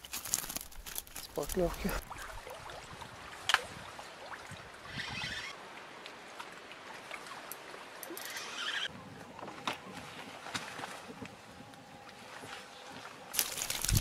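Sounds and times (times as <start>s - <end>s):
small waves lapping: 0.3s - 14.0s.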